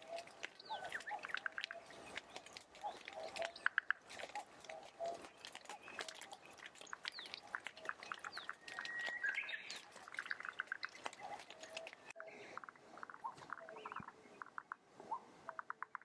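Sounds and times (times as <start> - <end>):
birds chirping and calling: 0.0 - 15.9.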